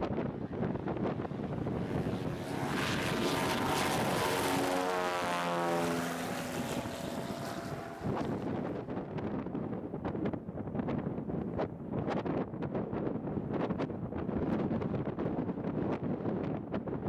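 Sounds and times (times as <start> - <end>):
plane engine and propeller: 0.0 - 15.2
wind on microphone: 0.0 - 17.0.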